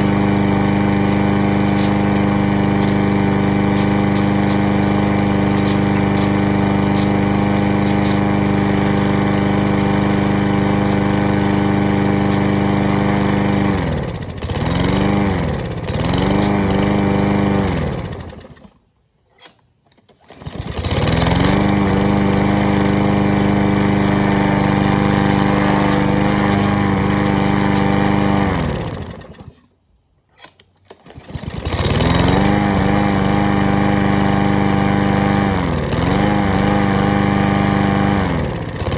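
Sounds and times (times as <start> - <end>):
lawn mower engine running: 0.0 - 29.7, 30.4 - 38.9.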